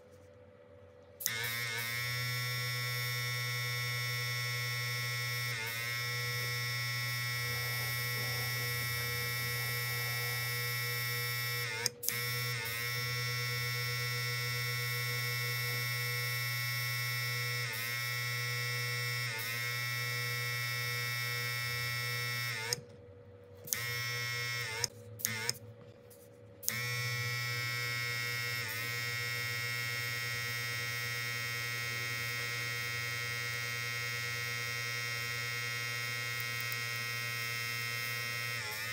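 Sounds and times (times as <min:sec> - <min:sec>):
small compressor motor humming: 0:01.0 - 0:38.9.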